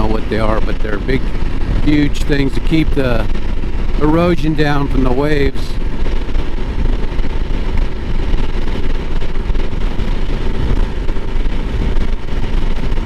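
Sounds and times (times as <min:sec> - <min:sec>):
motorcycle engine running: 0:00.0 - 0:13.0
wind on microphone: 0:00.0 - 0:13.0.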